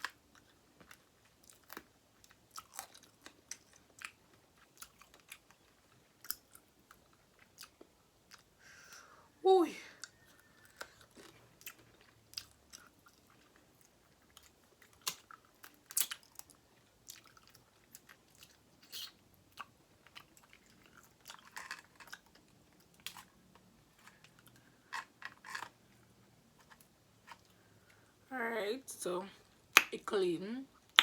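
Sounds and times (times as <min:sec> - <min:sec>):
close-up chewing: 0:00.0 - 0:09.2, 0:10.0 - 0:28.2.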